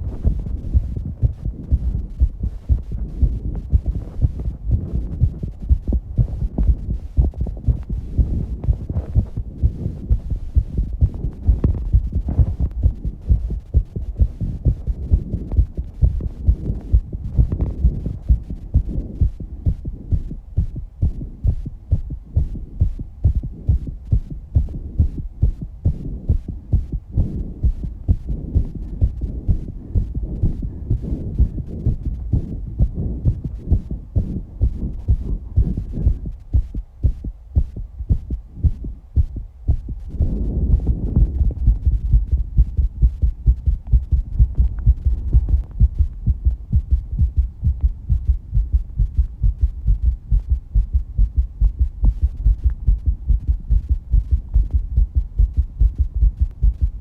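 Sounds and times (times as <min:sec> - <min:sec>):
fast heartbeat thumps: 0:00.0 - 0:57.0.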